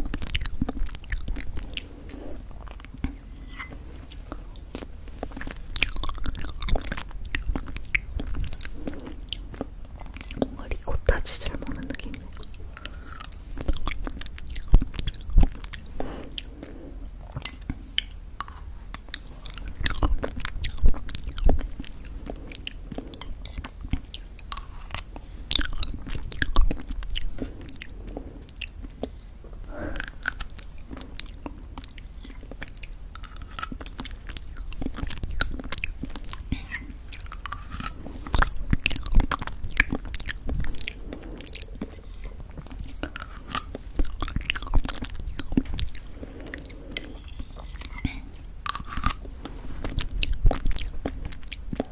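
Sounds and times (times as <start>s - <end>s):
wet mouth sounds eating: 0.0s - 51.9s.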